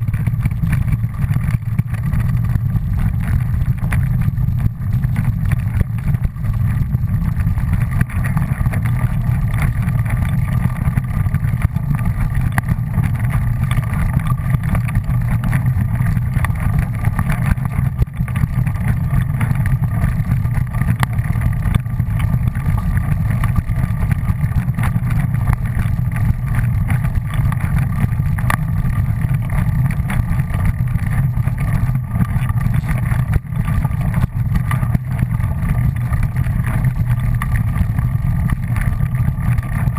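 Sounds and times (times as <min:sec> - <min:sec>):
engine droning: 0:00.0 - 0:39.9
faint steady whine: 0:00.0 - 0:39.9.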